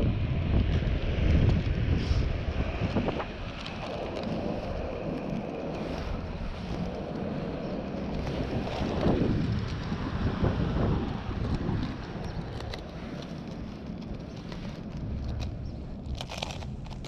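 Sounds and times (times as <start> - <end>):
skate wheels rolling on asphalt: 0.0 - 17.0
wind buffeting microphone: 0.0 - 17.0.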